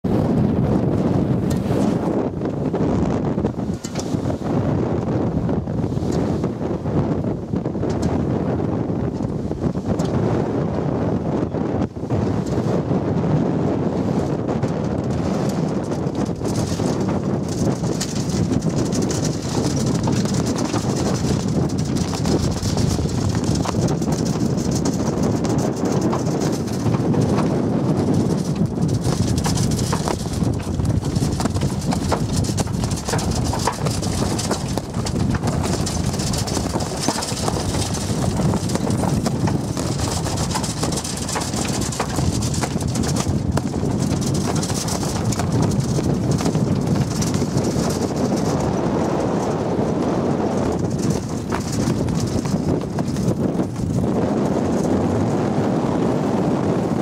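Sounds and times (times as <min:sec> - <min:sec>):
sail flapping in wind: 0:00.0 - 0:57.0
wind noise on microphone: 0:00.0 - 0:57.0.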